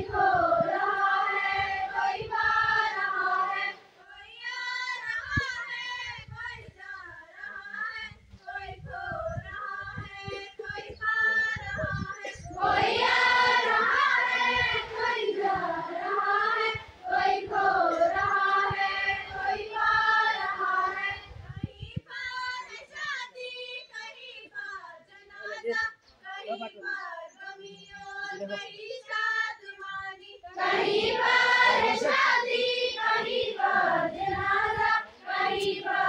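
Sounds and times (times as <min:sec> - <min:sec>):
students singing together: 0:00.0 - 0:21.6, 0:27.4 - 0:36.0.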